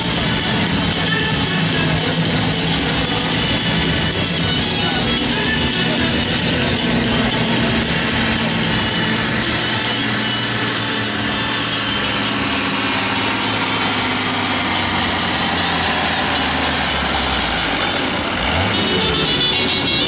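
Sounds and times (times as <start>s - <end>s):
tractor diesel engine at full load: 0.0s - 20.0s.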